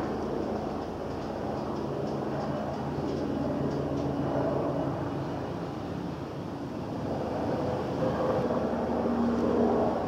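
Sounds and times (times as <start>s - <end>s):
helicopter rotor drone: 0.0s - 10.0s.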